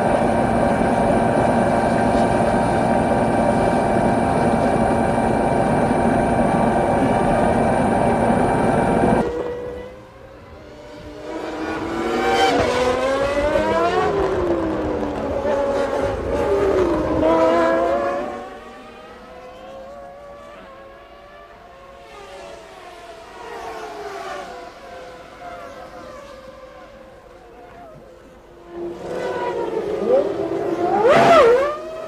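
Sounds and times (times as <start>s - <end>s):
distant engines: 0.0s - 32.0s
racing cars passing at high revs: 0.0s - 32.0s.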